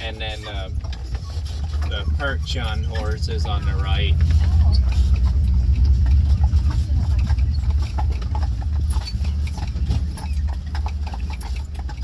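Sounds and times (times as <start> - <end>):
carriage rumbling: 0.0 - 12.0
hooves clip-clopping on road: 0.0 - 12.0.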